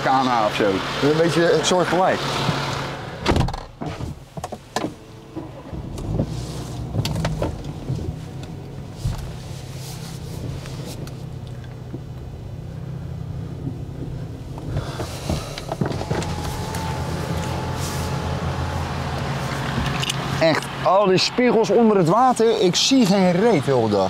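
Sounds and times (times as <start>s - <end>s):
car engine humming: 0.0s - 24.0s
road noise: 0.0s - 24.0s.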